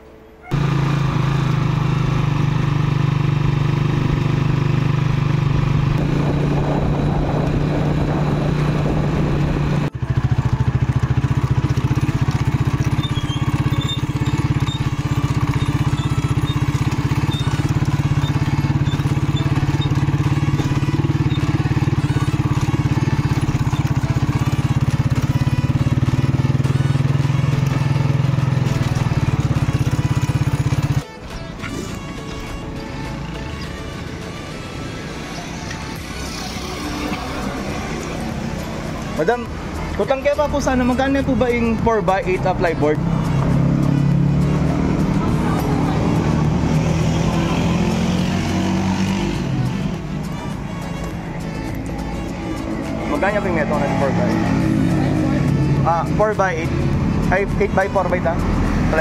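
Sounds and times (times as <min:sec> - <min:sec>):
road noise: 0:00.0 - 0:59.0
small motorcycle engine running: 0:00.5 - 0:59.0.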